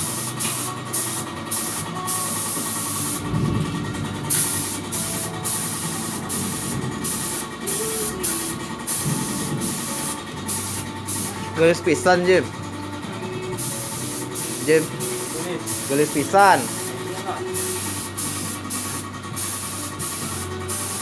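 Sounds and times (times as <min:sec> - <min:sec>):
steady low hum: 0:00.0 - 0:20.7
paint sprayer hissing: 0:00.0 - 0:21.0.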